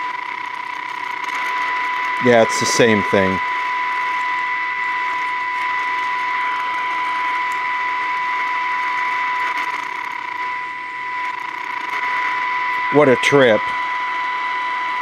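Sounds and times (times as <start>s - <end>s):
radio high-pitched whistle: 0.0s - 15.0s
radio hiss: 0.0s - 15.0s.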